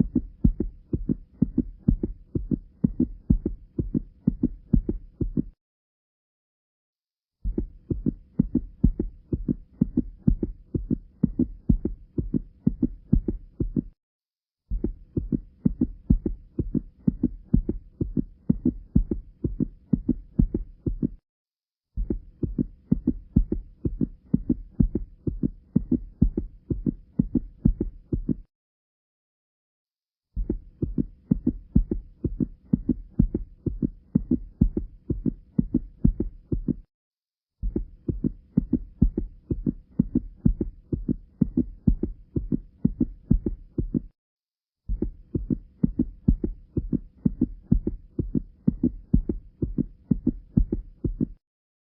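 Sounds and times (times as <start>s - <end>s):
heart murmur: 0.0s - 5.6s, 7.4s - 14.0s, 14.7s - 21.2s, 22.0s - 28.5s, 30.4s - 36.9s, 37.6s - 44.2s, 44.9s - 51.4s
rapid heartbeats: 0.0s - 5.6s, 7.4s - 14.0s, 14.7s - 21.2s, 22.0s - 28.5s, 30.4s - 36.9s, 37.6s - 44.2s, 44.8s - 51.4s.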